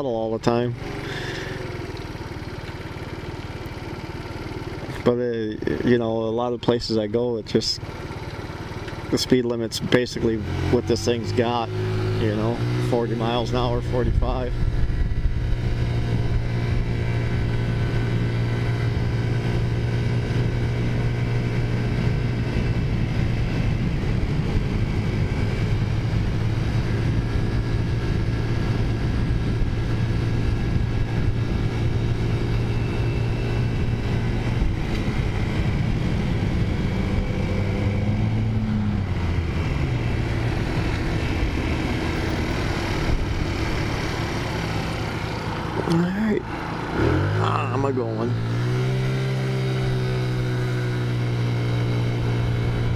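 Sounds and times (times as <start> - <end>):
wind and road noise: 0.0 - 52.9
scooter engine running: 0.5 - 6.0, 6.9 - 52.9.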